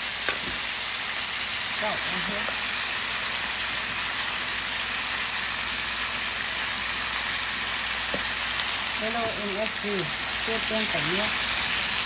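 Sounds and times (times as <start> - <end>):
meat and vegetables sizzling in a pan: 0.0 - 12.0.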